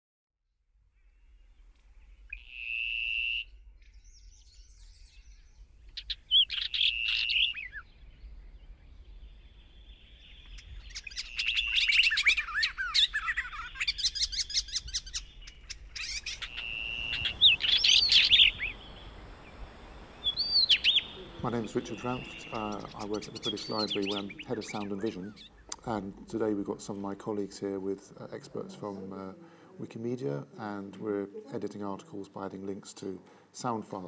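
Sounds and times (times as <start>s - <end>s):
birds singing: 1.0s - 29.4s.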